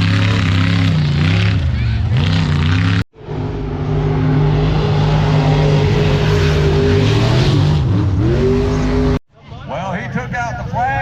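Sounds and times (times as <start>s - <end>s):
truck engine at high revs: 0.0s - 9.2s.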